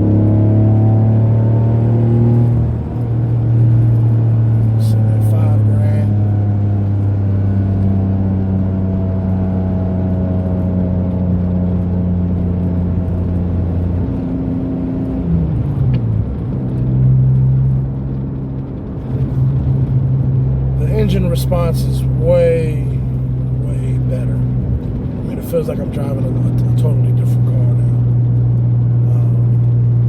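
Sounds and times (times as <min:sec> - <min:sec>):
car engine running while driving: 0:00.0 - 0:30.0.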